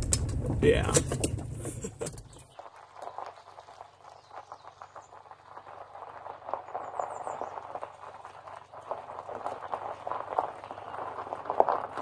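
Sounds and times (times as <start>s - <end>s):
gravel crunching under tyres: 0.0s - 12.0s.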